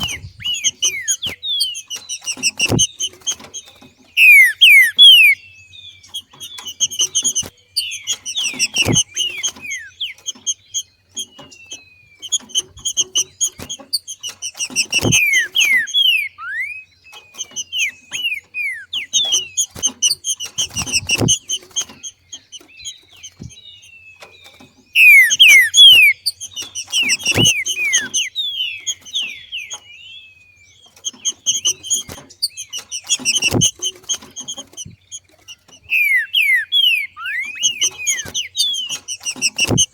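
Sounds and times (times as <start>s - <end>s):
bird chattering call: 0.0s - 30.0s, 30.8s - 39.9s.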